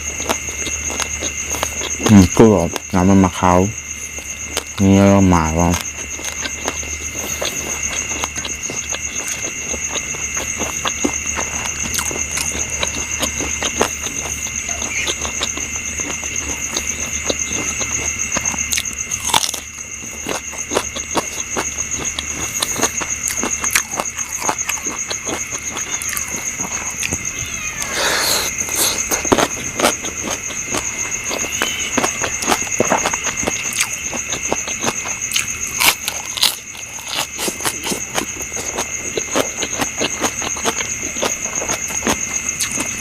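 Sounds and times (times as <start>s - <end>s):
night insects trilling: 0.0s - 43.0s
wet chewing and smacking: 0.0s - 43.0s
rustling bite: 5.7s - 43.0s.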